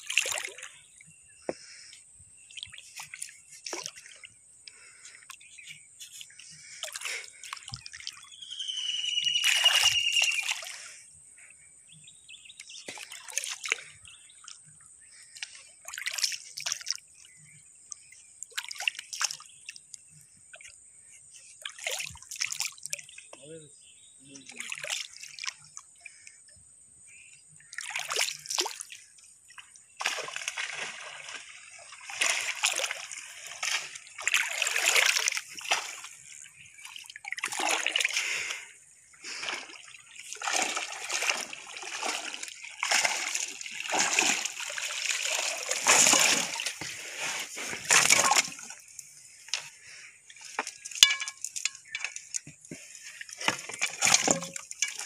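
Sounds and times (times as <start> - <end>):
pond water splashing: 0.0 - 11.0, 12.6 - 23.6, 24.3 - 26.4, 27.1 - 55.0.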